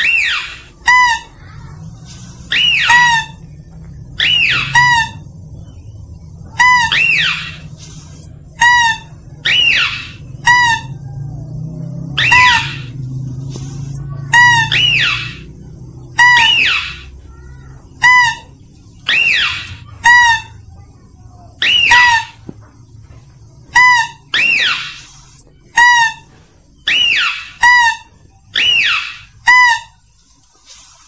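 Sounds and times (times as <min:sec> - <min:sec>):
high squealing lure calls: 0:00.0 - 0:22.4, 0:23.6 - 0:31.0.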